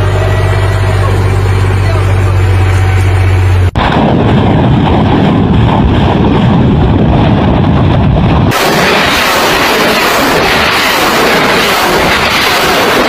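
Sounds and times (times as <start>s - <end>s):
heavy vehicle engine droning: 0.0s - 13.0s
rocket launch rumble: 0.0s - 13.0s.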